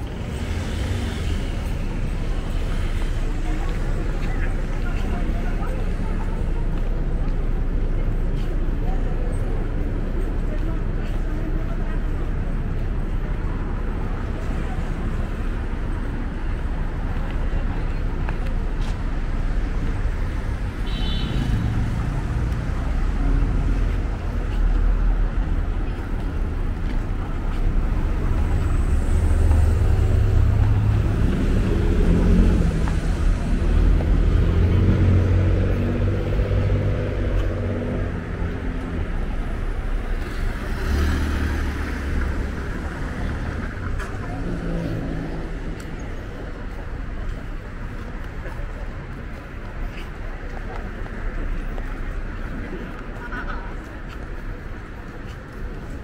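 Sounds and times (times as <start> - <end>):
cars passing: 0.0 - 56.0
heavy vehicle engine: 0.0 - 56.0.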